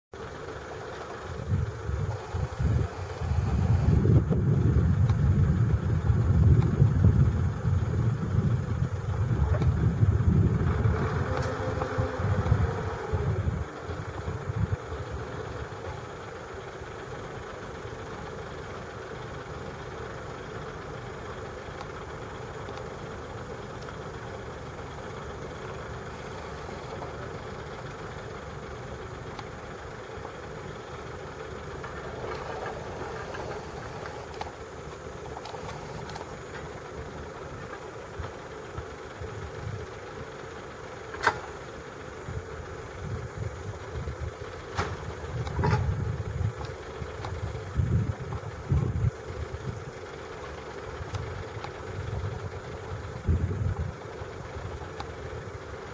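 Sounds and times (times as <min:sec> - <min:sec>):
engine rumbling: 0:00.1 - 0:55.9.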